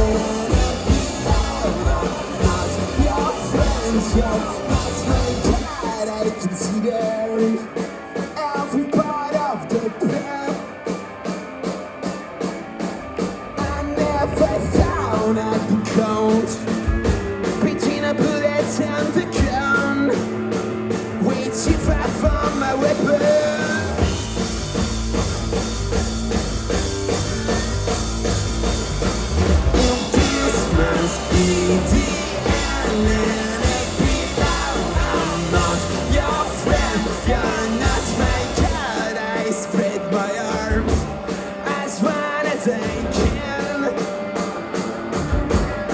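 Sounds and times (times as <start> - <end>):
heavy bass: 0.0 - 7.0, 12.8 - 41.9, 44.7 - 45.9
rock band playing: 0.0 - 45.9.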